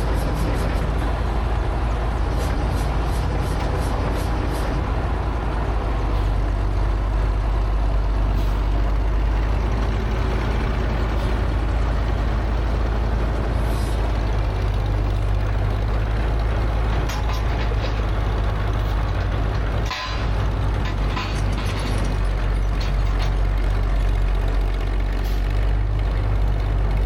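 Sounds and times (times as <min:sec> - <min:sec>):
heavy machine engine rumbling: 0:00.0 - 0:27.0.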